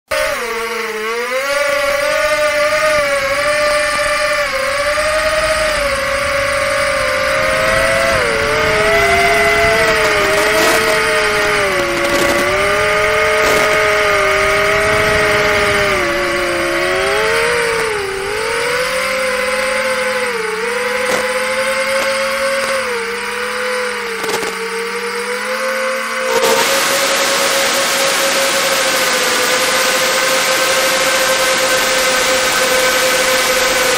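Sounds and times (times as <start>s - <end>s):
drone motors whining: 0.1s - 33.9s.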